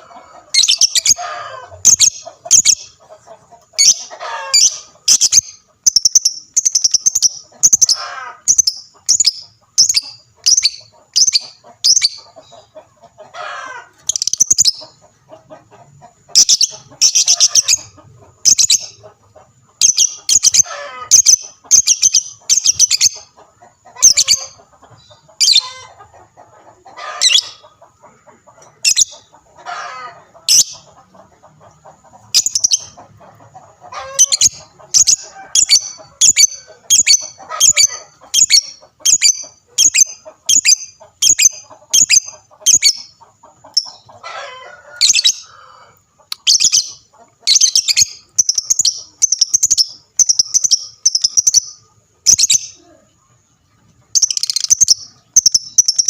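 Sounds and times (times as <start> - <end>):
lovebirds chattering calls: 0.0 - 27.9, 28.6 - 45.5, 46.2 - 52.8, 54.1 - 56.0.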